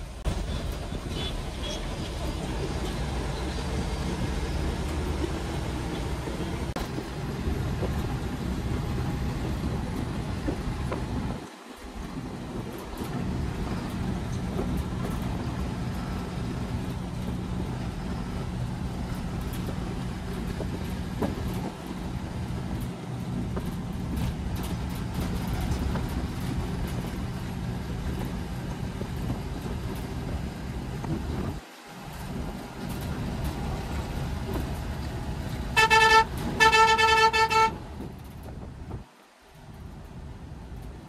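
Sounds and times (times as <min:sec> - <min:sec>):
coach engine and road rumble: 0:00.0 - 0:41.0.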